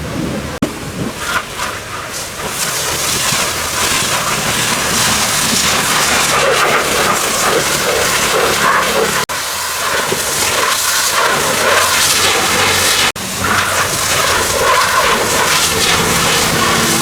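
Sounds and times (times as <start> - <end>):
pressure washer spraying water: 0.5 - 17.0.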